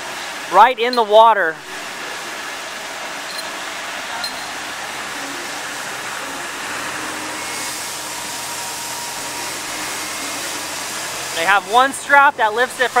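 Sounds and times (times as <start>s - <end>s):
crane engine running: 0.0s - 13.0s.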